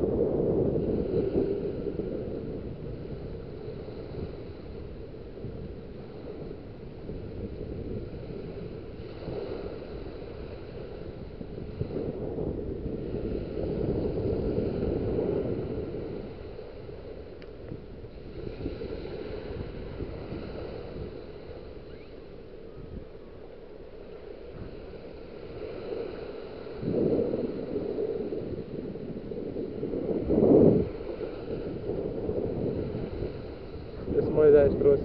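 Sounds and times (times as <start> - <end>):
small waves washing up a beach: 0.0 - 35.0
wind rumbling on microphone: 0.0 - 35.0.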